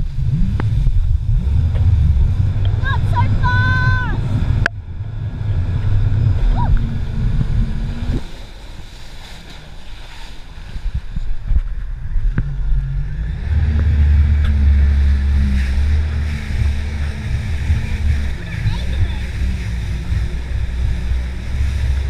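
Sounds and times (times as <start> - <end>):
jet ski engine: 0.0 - 22.0
water rushing past: 0.0 - 22.0
wind buffeting microphone: 0.0 - 22.0.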